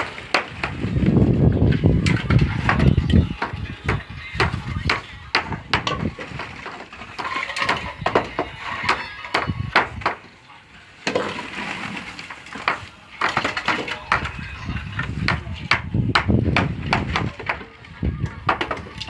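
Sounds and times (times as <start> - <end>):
knocks and scrapes of concrete work: 0.0 - 19.0.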